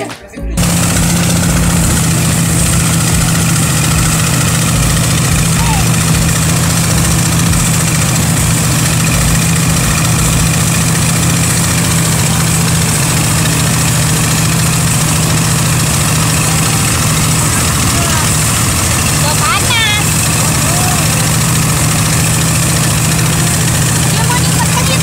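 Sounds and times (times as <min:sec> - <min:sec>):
threshing machine droning: 0:00.6 - 0:25.0.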